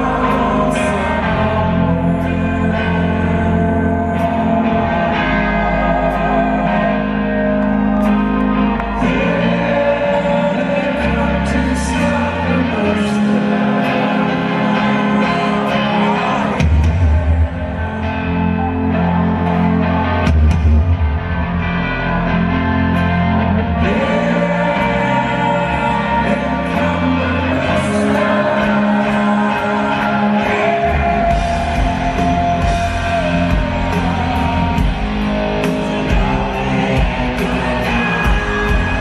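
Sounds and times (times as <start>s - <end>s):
person singing: 0.0s - 20.0s, 23.4s - 39.0s
live rock band playing: 0.0s - 39.0s.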